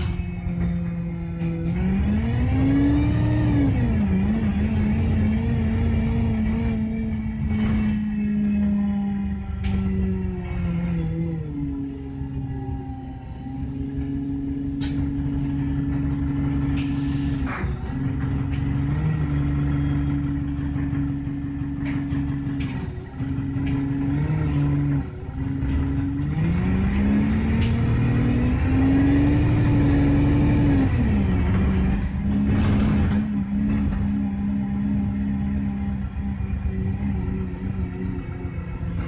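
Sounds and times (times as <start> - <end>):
bus engine accelerating: 0.0 - 39.0.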